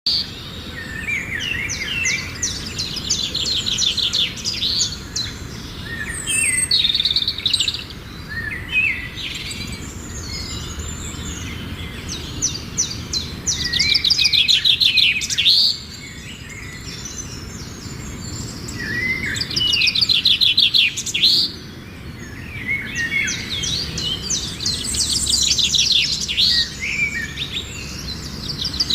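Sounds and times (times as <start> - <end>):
songbird trilling and chirping: 0.1 - 28.9.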